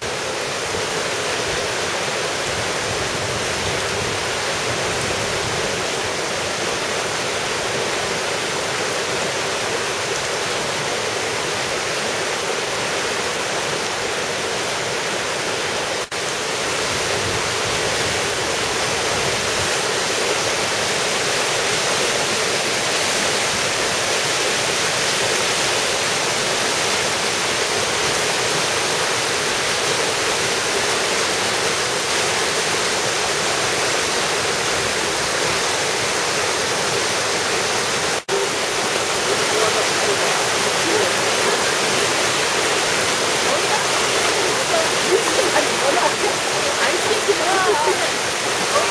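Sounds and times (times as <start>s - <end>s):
rushing stream water: 0.0s - 48.9s.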